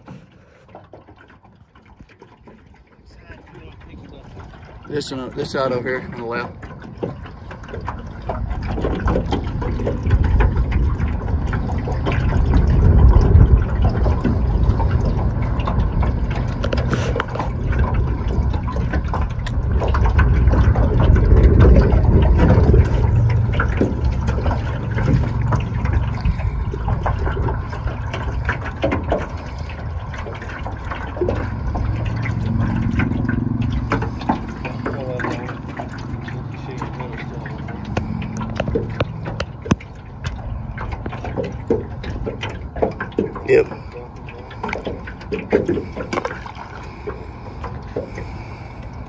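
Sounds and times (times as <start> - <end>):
water slapping against metal hull: 0.0 - 49.0
steady low rumble: 3.0 - 49.0.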